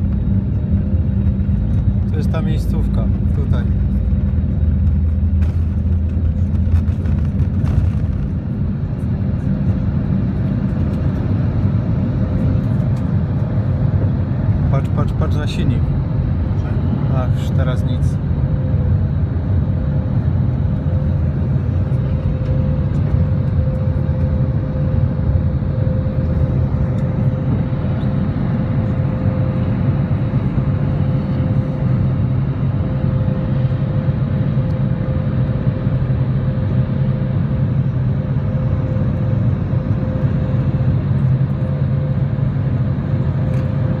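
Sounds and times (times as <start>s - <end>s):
jet engines droning: 0.0s - 44.0s
steady hum: 0.0s - 44.0s.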